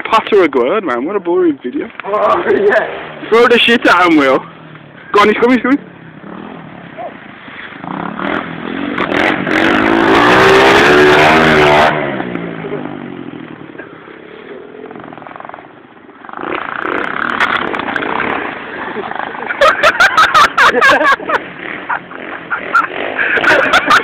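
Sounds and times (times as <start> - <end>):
motorbike engine revving: 2.2 - 24.0.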